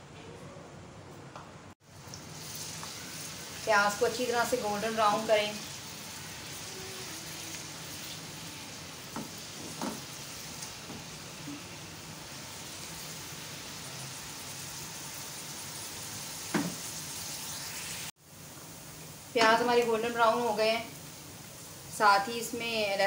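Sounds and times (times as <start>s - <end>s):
onions sizzling in hot oil: 1.8s - 23.0s.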